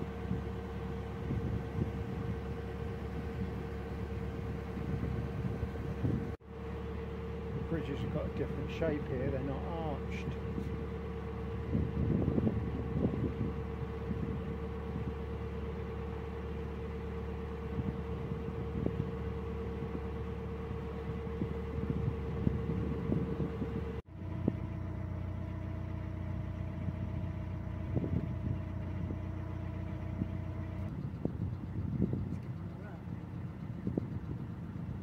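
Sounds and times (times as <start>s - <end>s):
boat diesel engine humming: 0.0s - 35.0s.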